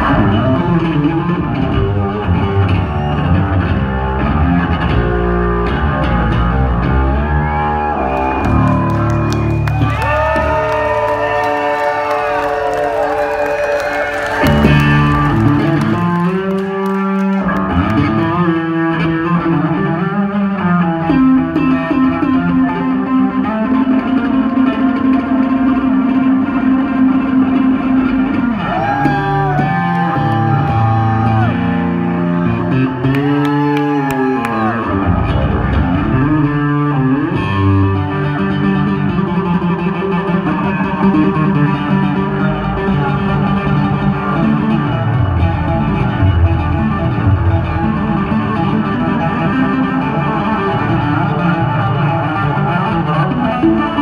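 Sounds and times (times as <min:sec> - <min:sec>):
electric bass guitar: 0:00.0 - 0:54.0.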